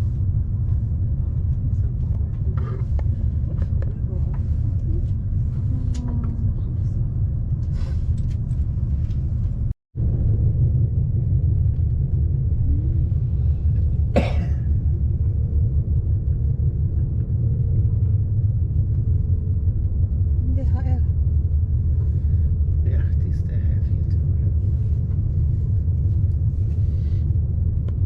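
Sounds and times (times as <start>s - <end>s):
train rumbling inside carriage: 0.0s - 28.0s.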